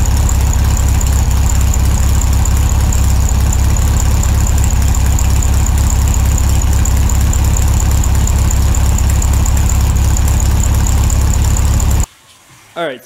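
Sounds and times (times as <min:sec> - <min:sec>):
electric buffer whining: 0:00.0 - 0:12.1.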